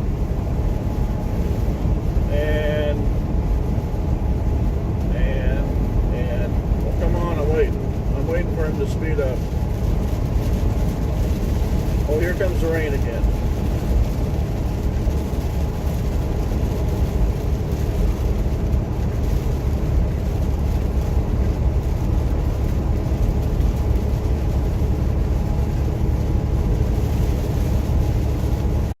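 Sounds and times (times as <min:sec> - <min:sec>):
truck engine and tyre rumble: 0:00.0 - 0:29.0.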